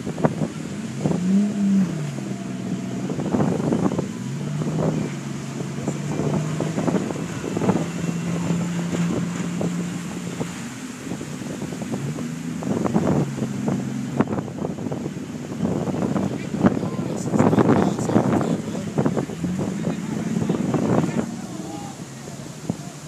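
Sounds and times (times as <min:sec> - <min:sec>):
boat engine humming: 0:00.0 - 0:23.0
wind buffeting microphone: 0:00.0 - 0:23.0.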